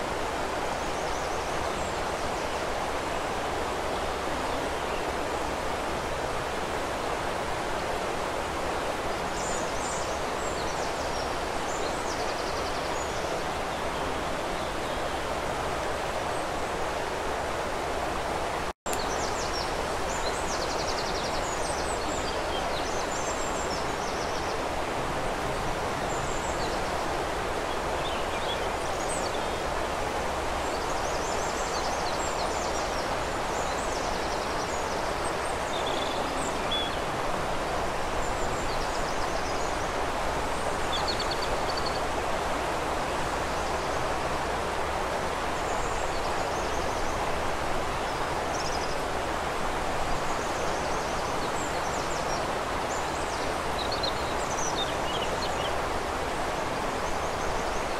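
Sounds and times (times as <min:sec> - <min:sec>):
river water flowing: 0:00.0 - 0:57.9
songbirds chirping: 0:00.1 - 0:57.9.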